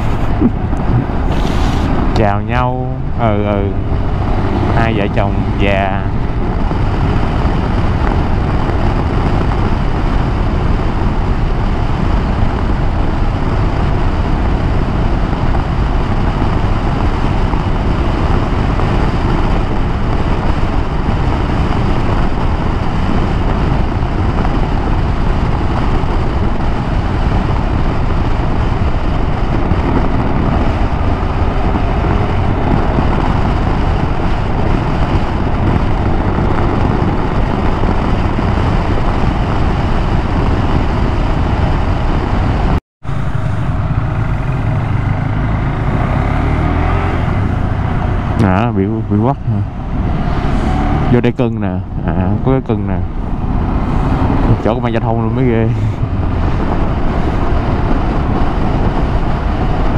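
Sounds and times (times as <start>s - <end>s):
motorcycle engine and road noise: 0.0s - 59.9s
wind rushing on microphone: 0.0s - 59.9s.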